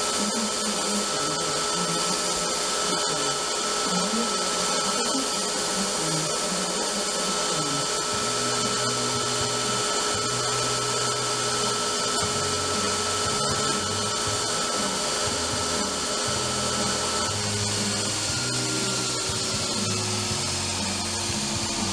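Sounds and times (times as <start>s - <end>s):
belt grinder sanding metal: 0.0s - 21.9s
motor hum: 0.0s - 21.9s.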